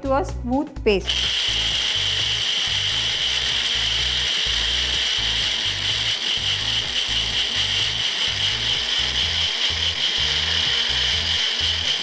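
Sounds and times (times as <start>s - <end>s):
mixer grinder whining: 1.0s - 12.0s.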